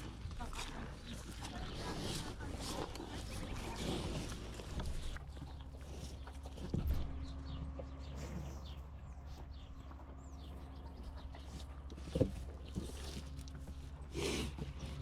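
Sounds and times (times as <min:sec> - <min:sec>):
bulls feeding: 0:00.0 - 0:15.0
steady low hum: 0:00.0 - 0:15.0.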